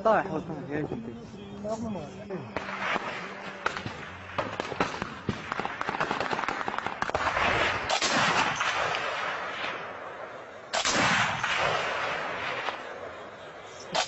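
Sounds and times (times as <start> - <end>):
loud blasts with rolling echo: 0.0 - 14.0
rapid gunshots: 2.5 - 14.0.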